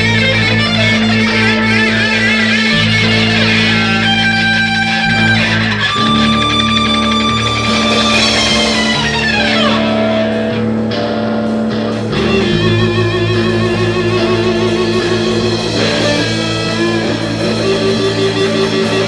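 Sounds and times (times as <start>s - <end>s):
steady bass line: 0.0s - 19.0s
wavering electric guitar lead: 0.0s - 19.0s.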